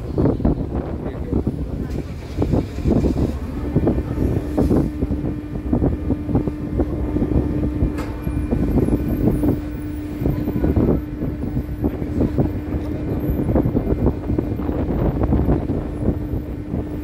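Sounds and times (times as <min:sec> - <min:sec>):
ferry engine humming: 0:00.0 - 0:17.0
wind gusting over microphone: 0:00.0 - 0:17.0.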